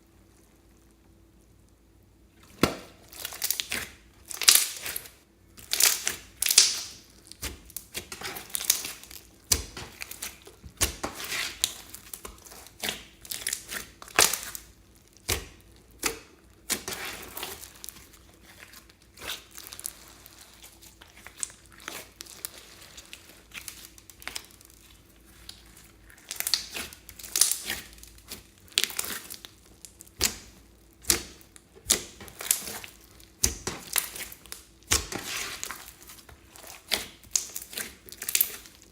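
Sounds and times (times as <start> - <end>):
slime squishing by hand: 2.3 - 38.9.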